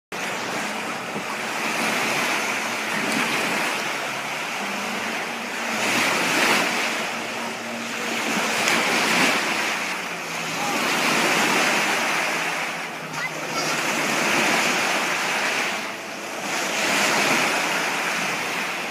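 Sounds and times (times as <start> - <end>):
water rushing past boat: 0.1 - 18.9.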